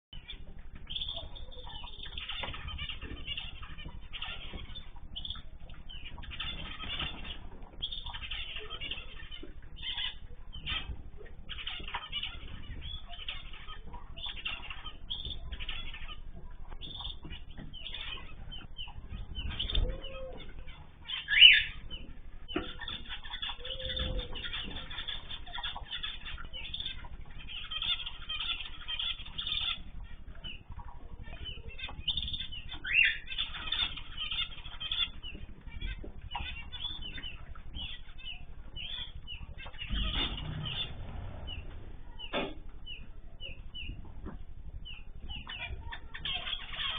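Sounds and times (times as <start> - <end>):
birds chirping: 0.1 - 46.9
wings fluttering: 0.2 - 46.9.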